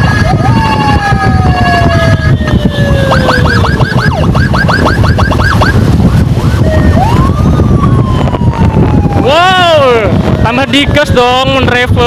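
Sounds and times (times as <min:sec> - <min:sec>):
emergency vehicle sirens wailing: 0:00.0 - 0:12.0
road rumble: 0:00.0 - 0:12.0.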